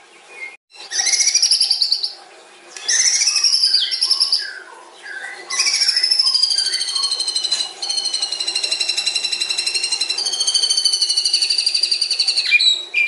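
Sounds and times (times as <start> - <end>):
bird singing rattling trills: 0.2 - 13.0.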